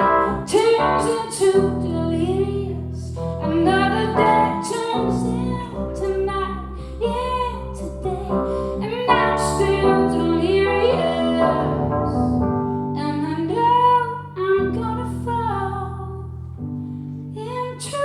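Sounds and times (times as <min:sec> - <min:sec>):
woman singing: 0:00.0 - 0:16.3, 0:17.3 - 0:18.0.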